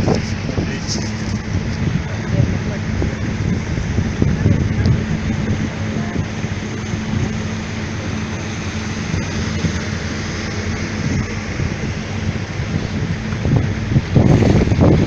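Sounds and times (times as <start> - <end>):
motorboat engine humming: 0.0 - 15.0
wind and water hiss: 0.0 - 15.0.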